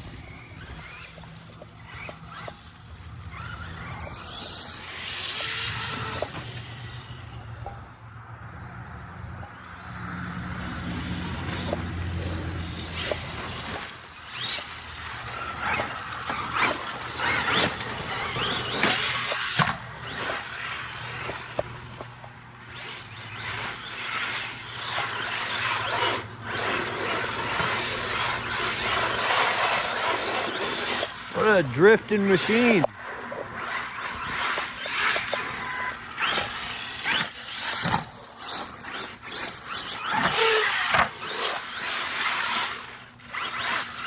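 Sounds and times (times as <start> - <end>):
electric motor whining: 0.0 - 7.9, 9.6 - 44.0.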